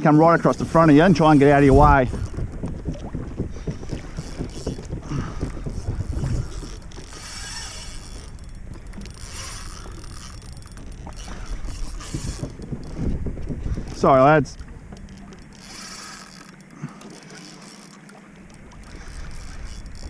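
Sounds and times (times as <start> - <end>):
wind rumbling on microphone: 0.0 - 17.0, 18.4 - 20.0
fishing reel whirring: 0.4 - 20.0.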